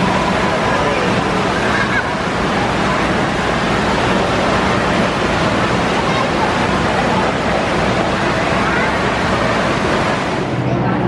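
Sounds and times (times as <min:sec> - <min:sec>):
crowd babble with children: 0:00.0 - 0:11.0
water splashing from fountains: 0:00.0 - 0:11.0.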